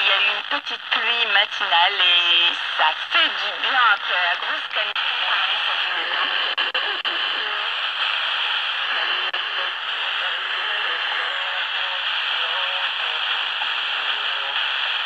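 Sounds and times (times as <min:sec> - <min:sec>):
faint radio programme: 0:00.0 - 0:15.0
radio static hiss: 0:00.0 - 0:15.0.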